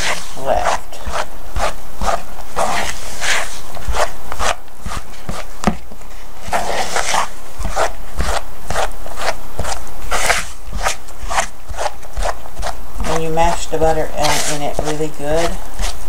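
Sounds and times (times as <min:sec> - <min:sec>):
hands squishing dough mixture: 0:00.0 - 0:16.0.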